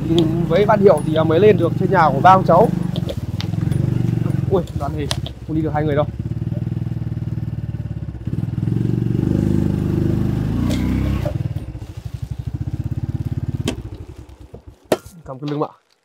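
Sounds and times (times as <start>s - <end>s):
motorcycle engine revving uphill: 0.0s - 15.2s.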